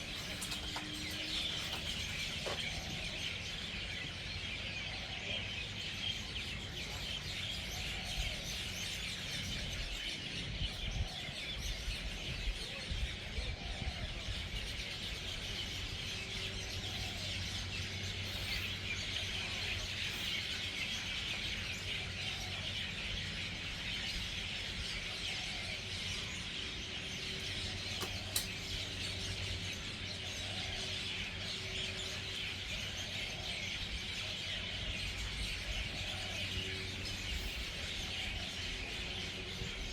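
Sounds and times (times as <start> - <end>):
chorus of birds chattering: 0.0 - 39.9.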